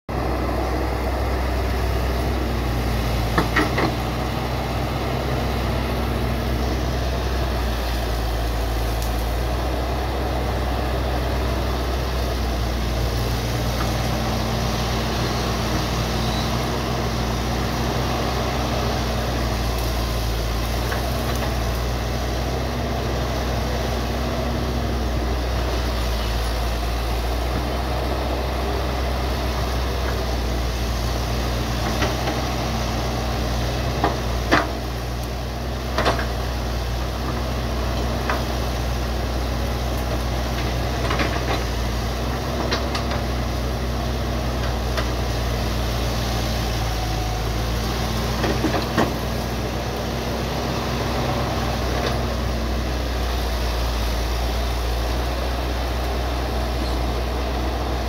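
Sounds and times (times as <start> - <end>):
excavator diesel engine running: 0.1 - 58.0.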